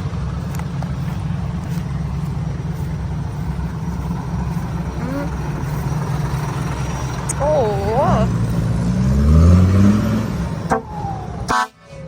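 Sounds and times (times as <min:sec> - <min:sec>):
diesel engine rumbling at low revs: 0:00.0 - 0:12.0.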